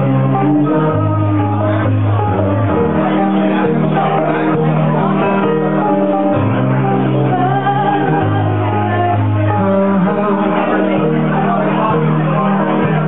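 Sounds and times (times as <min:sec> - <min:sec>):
acoustic guitar: 0:00.0 - 0:13.0
keyboard notes: 0:00.0 - 0:13.0
person singing: 0:00.0 - 0:13.0.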